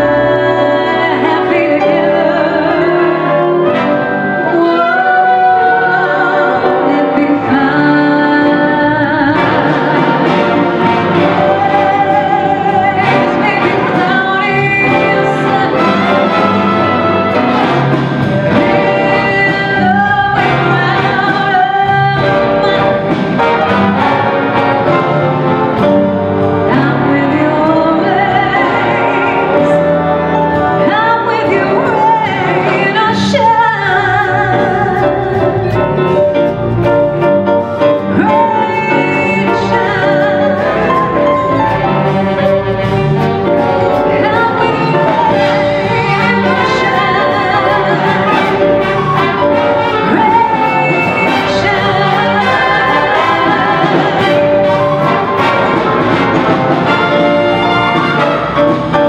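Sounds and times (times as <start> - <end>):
concert band accompanying: 0.0 - 59.0
woman singing jazz: 0.0 - 59.0.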